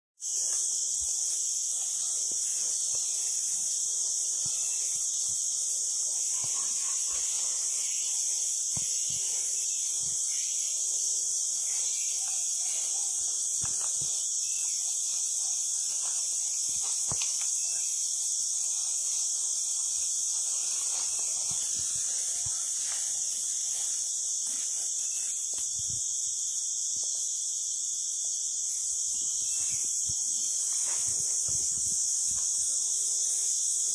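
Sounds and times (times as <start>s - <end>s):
insect chorus shrilling: 0.2s - 33.9s.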